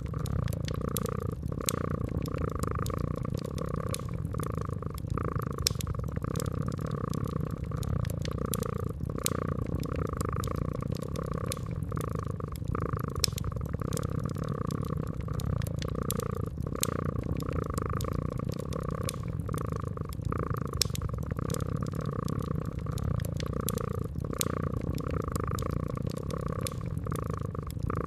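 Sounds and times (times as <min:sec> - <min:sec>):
cat purring: 0:00.0 - 0:28.0
wood fire crackling: 0:00.0 - 0:28.0.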